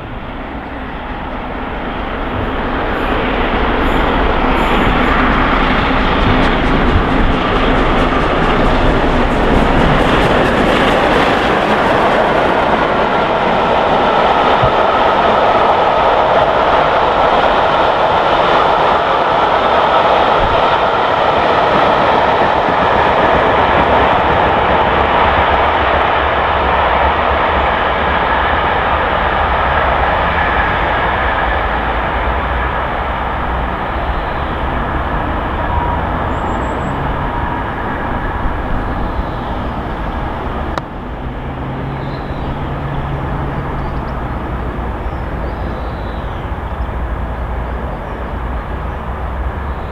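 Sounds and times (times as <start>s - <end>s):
train wheels on rail: 0.0s - 49.9s.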